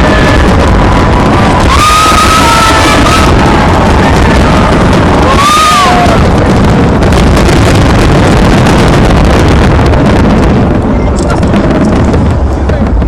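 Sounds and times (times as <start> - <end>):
fireworks barrage with rapid crackles: 0.0 - 13.0.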